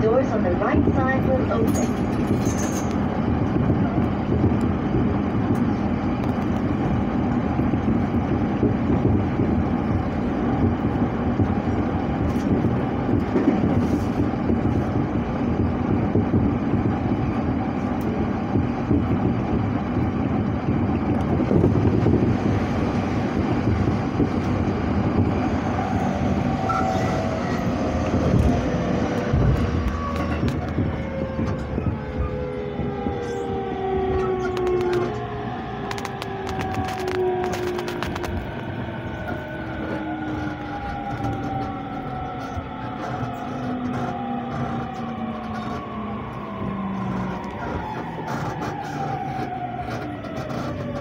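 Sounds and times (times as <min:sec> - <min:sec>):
passing train whine: 0:00.0 - 0:51.0
train rumbling: 0:00.0 - 0:51.0.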